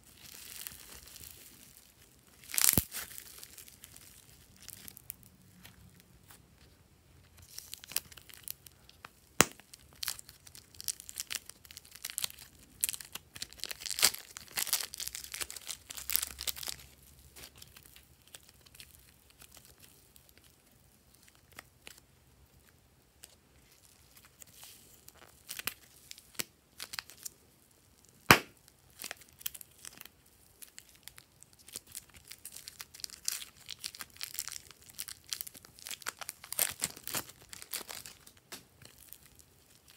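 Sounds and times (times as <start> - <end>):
plastic packaging crinkling: 0.0 - 22.0, 22.6 - 27.4, 28.0 - 39.9
slime crackling and crinkling: 0.0 - 39.9.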